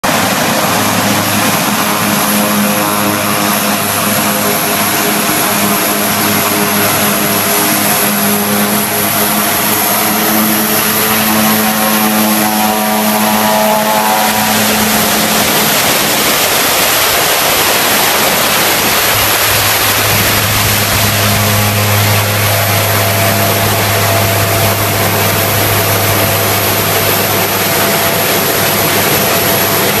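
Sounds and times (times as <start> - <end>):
high turbine whine: 0.0 - 30.0
propeller drone: 0.0 - 30.0.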